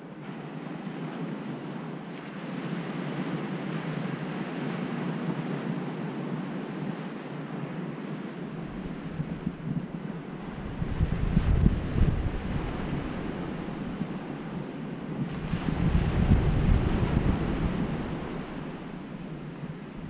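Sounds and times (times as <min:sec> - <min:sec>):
ocean surf washing onto beach: 0:00.0 - 0:20.0
wind rumble on microphone: 0:00.0 - 0:20.0.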